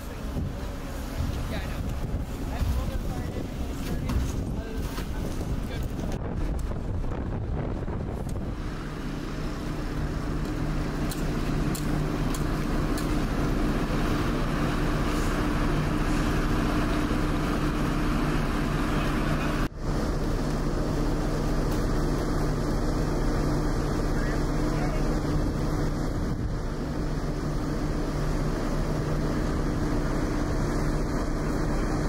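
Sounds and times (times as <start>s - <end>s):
fire engine motor running: 0.0s - 32.0s.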